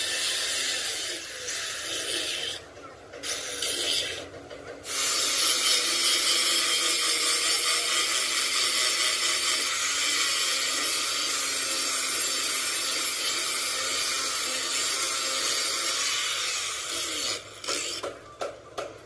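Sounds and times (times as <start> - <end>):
metal being rasped: 0.0 - 2.6, 3.2 - 18.1.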